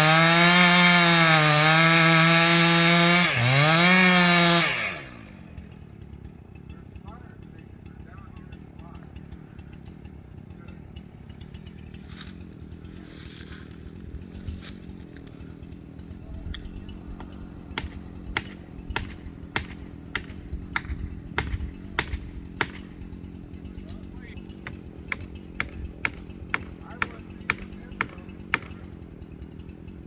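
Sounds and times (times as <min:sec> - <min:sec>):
chainsaw engine running: 0:00.0 - 0:30.0.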